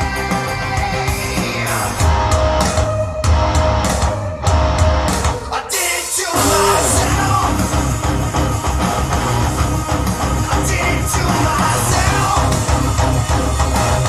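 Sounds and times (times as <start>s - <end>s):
rock song through speaker: 0.0s - 14.0s.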